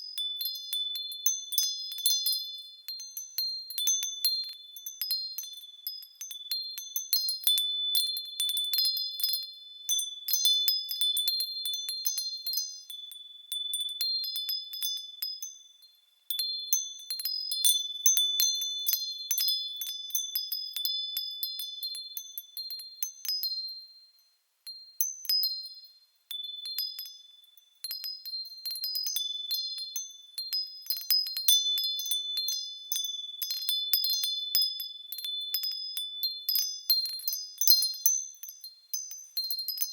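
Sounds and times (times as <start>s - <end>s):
wind chimes tinkling: 0.0s - 39.9s.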